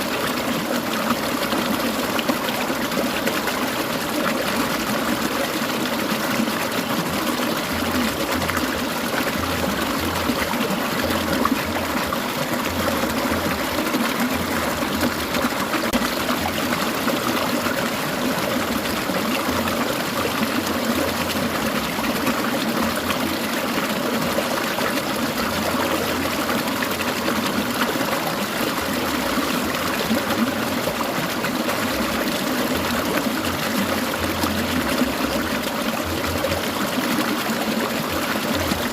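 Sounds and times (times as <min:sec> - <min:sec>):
stream burbling over stones: 0:00.0 - 0:38.9.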